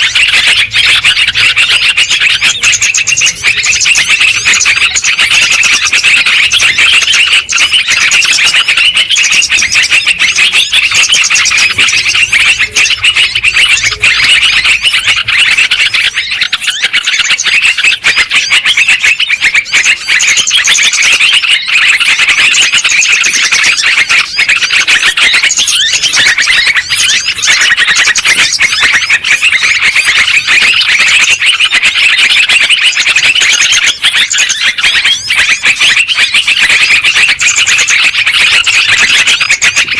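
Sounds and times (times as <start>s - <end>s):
bulbuls chattering and calling: 0.0s - 39.9s.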